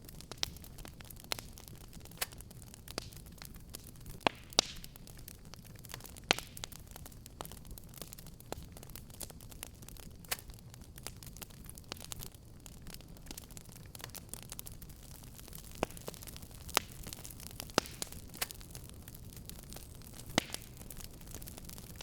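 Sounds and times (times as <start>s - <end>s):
fire crackling and popping: 0.0s - 22.0s
low steady fire rumble: 0.0s - 22.0s.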